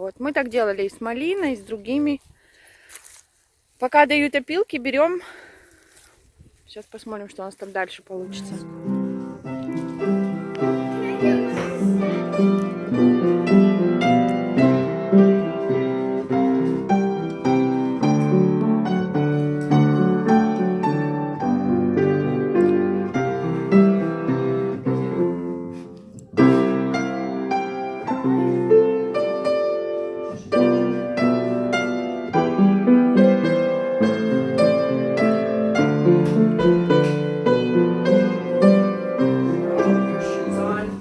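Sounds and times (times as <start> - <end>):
piano music: 8.2 - 41.0.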